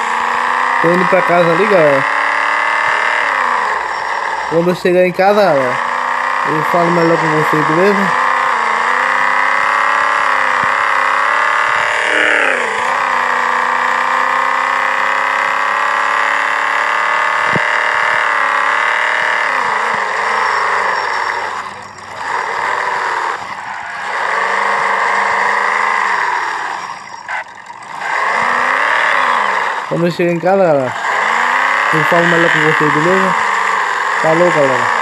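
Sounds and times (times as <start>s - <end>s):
car engine while driving: 0.0s - 35.0s.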